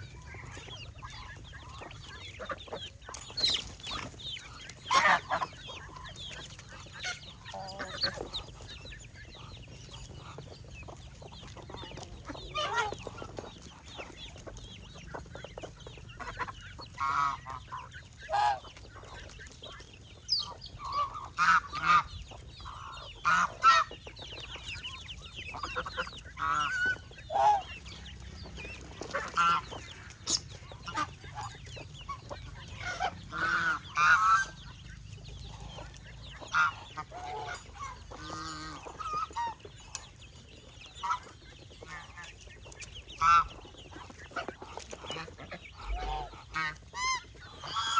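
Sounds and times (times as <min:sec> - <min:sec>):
poultry calling: 0:00.0 - 0:47.9.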